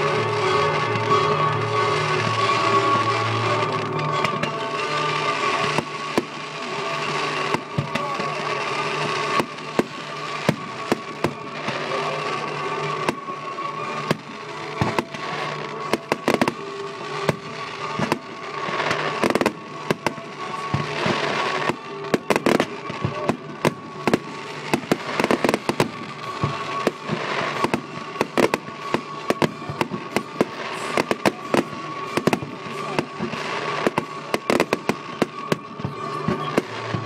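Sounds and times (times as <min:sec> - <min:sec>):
fireworks bangs and crackle: 0:00.0 - 0:37.0.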